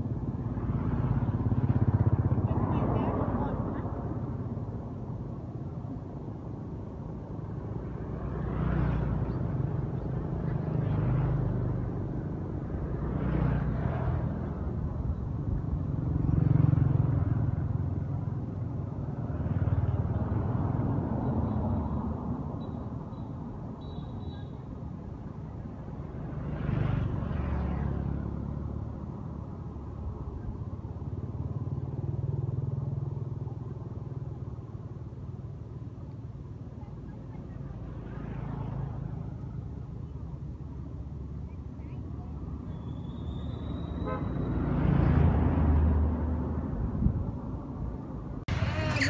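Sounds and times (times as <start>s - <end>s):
passing vehicle engines: 0.0s - 49.0s.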